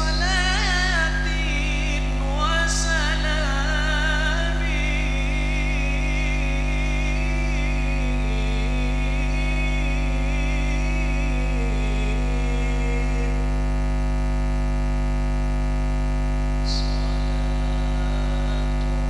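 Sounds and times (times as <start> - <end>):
person singing: 0.0 - 13.5, 16.6 - 19.0
electrical mains hum: 0.0 - 19.0.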